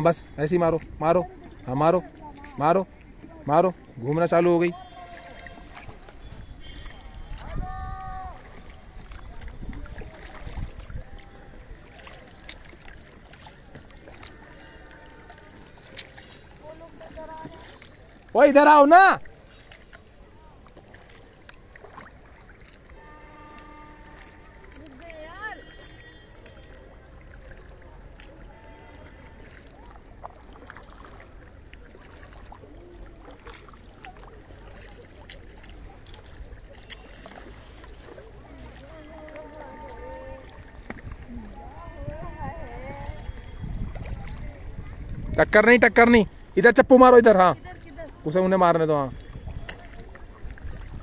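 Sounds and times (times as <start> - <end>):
paddle splashing in water: 0.0 - 51.0.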